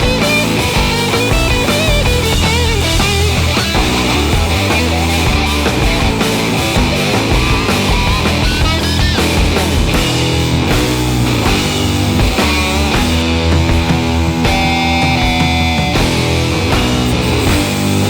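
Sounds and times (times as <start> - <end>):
heavy metal rock music: 0.0 - 18.0.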